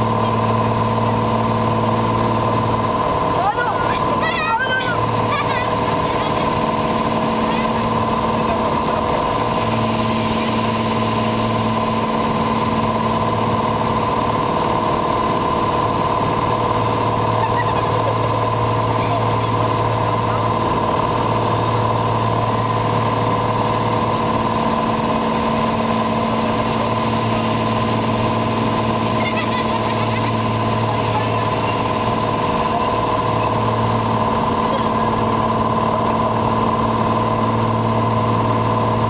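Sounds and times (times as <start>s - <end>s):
airplane engine and propeller droning: 0.0s - 39.0s.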